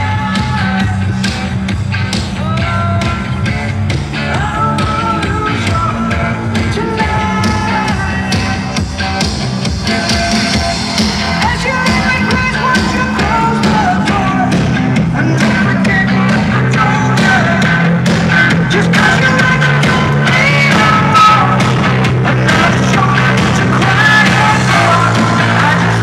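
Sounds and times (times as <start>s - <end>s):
loud music with singing voice: 0.0s - 26.0s
strong bass: 0.0s - 26.0s.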